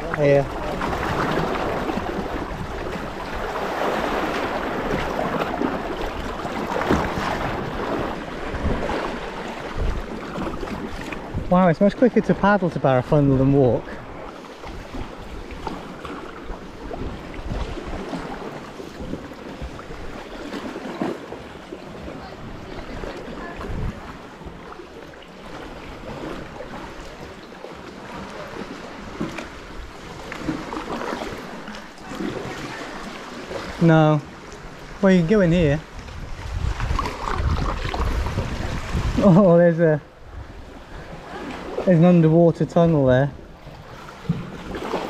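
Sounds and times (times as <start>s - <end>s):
paddle splashing in water: 0.0s - 45.0s
water rushing along hull: 0.0s - 45.0s.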